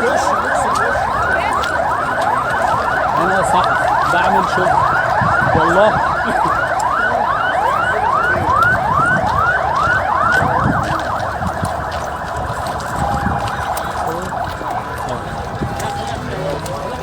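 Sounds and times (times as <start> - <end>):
emergency siren yelping: 0.0 - 17.0
second siren: 0.0 - 17.0.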